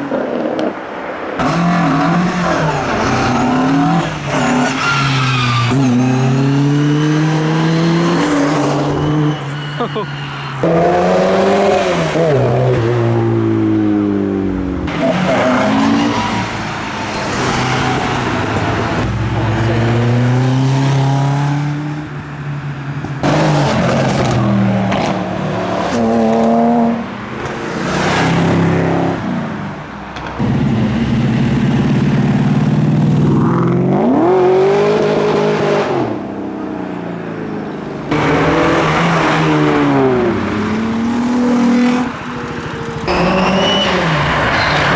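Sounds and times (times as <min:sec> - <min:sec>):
car engines accelerating: 0:00.0 - 0:44.9.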